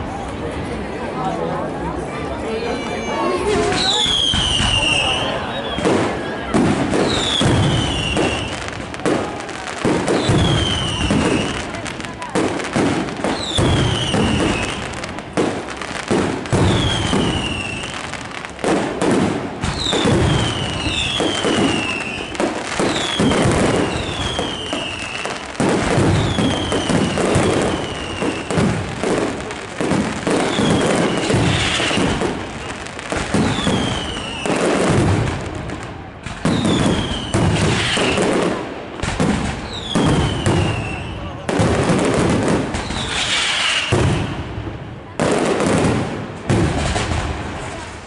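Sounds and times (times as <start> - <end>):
fireworks bursts and bangs: 0.0 - 48.0
whistling fireworks: 2.8 - 48.0.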